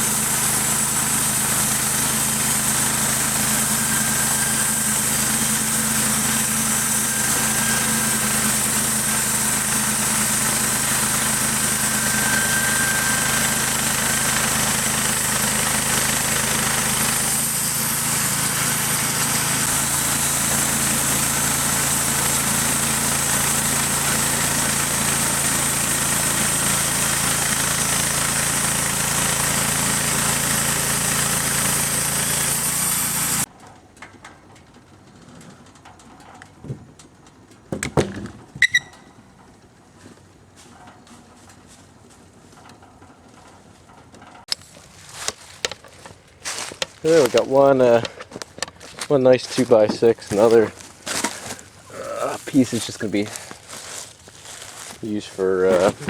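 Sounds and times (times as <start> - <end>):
sawmill engine running under load: 0.0 - 33.5, 44.5 - 56.0.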